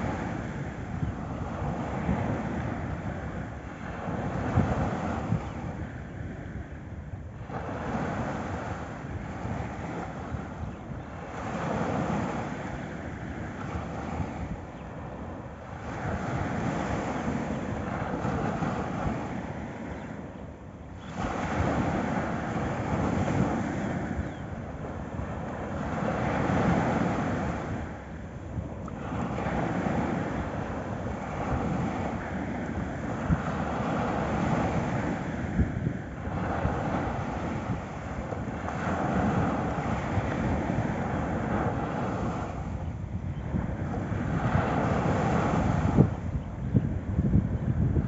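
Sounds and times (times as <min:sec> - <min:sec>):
sea waves breaking on beach: 0:00.0 - 0:48.0.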